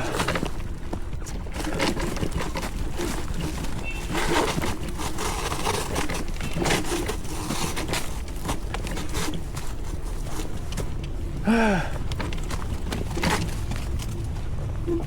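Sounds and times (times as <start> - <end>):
tyres crackling and crunching: 0.0 - 15.0.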